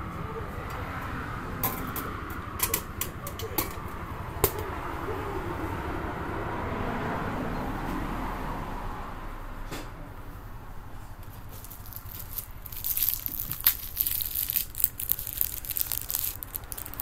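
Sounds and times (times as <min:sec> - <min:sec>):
steady background noise: 0:00.0 - 0:07.6, 0:09.4 - 0:17.0.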